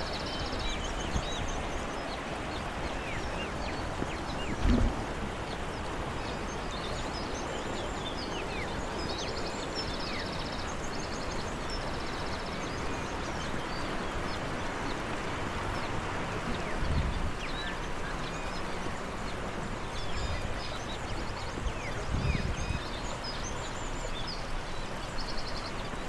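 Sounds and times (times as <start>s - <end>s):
small birds chirping: 0.0s - 26.0s
stream rushing: 0.0s - 26.0s.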